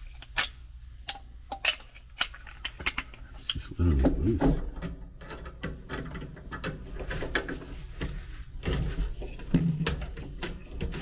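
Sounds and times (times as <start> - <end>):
wires and connectors rattling: 1.5 - 11.0.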